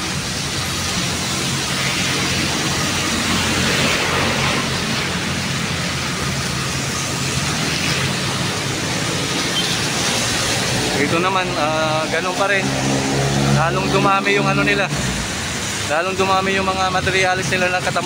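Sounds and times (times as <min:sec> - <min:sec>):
road traffic hum: 0:00.0 - 0:18.0
steady rain falling: 0:00.0 - 0:18.0.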